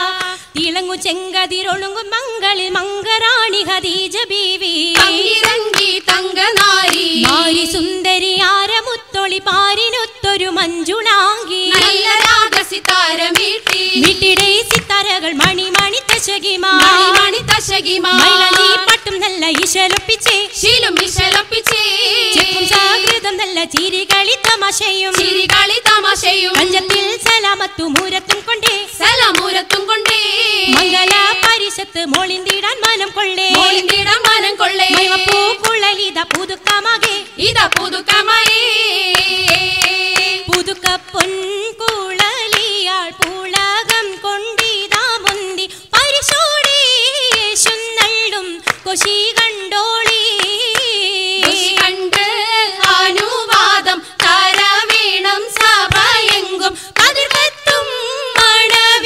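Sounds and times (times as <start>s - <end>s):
rhythmic hand clapping: 0.0s - 59.0s.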